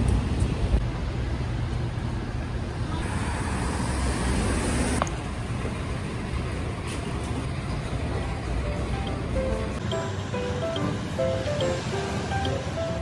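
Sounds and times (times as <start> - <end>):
passing vehicles rumbling: 2.5 - 13.0.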